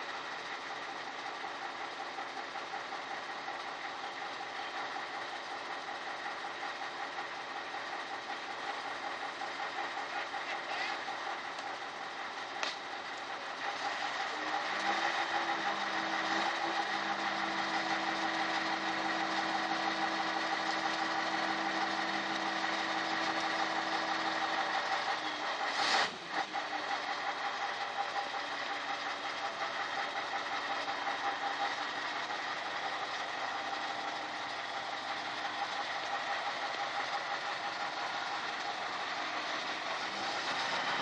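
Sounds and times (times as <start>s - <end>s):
crane diesel engine running: 0.0s - 41.0s.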